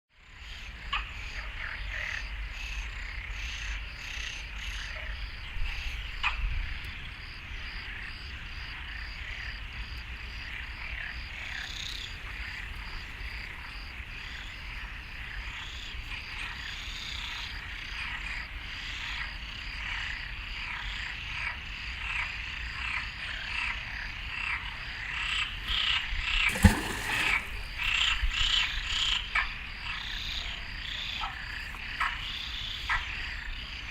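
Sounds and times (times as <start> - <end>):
frogs croaking: 0.2 - 33.9.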